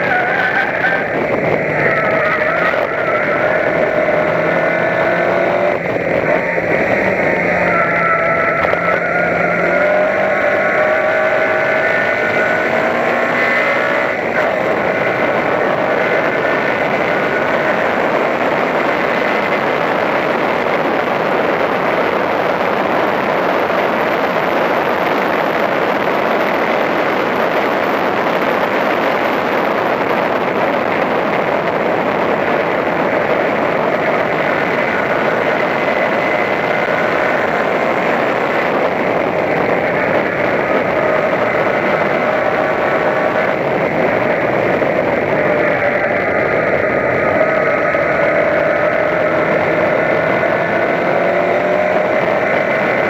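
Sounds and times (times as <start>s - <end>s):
race car engine running hard: 0.0s - 53.0s
road and wind noise: 0.0s - 53.0s.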